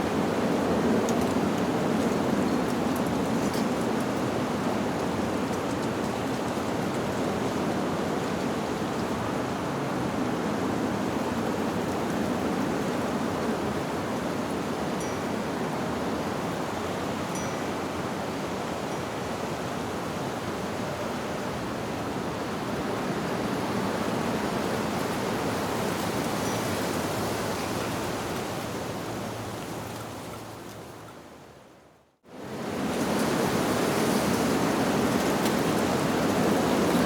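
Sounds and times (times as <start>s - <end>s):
wind rushing through leaves: 0.0s - 37.0s.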